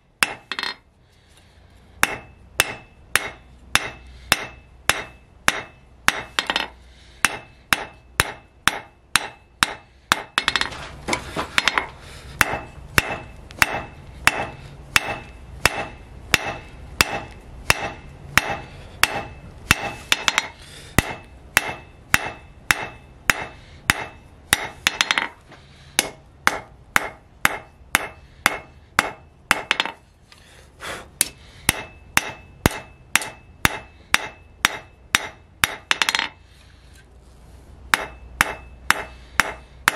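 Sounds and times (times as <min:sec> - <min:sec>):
hammer striking steel on anvil: 0:00.2 - 0:00.8, 0:02.0 - 0:10.8, 0:11.6 - 0:25.4, 0:26.0 - 0:30.0, 0:31.2 - 0:36.4, 0:37.9 - 0:39.9.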